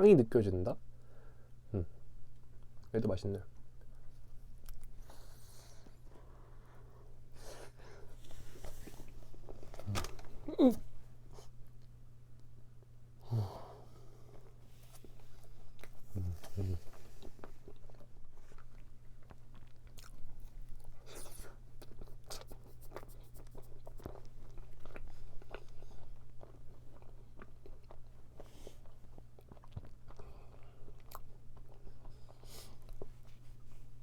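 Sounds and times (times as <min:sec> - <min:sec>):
chewing crisp pastry: 0:02.3 - 0:13.0, 0:14.1 - 0:34.0.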